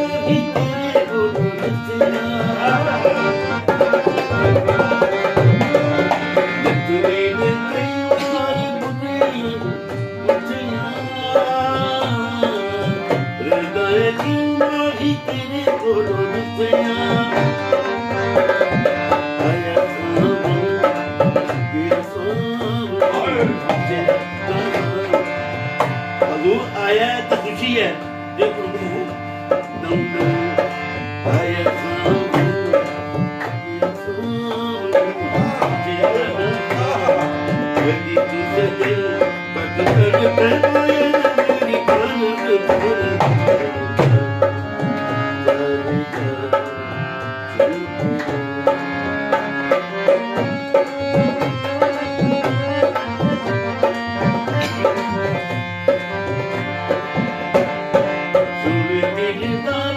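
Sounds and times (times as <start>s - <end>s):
dholak drum beating: 0.0s - 59.9s
harmonium playing chords: 0.0s - 59.9s.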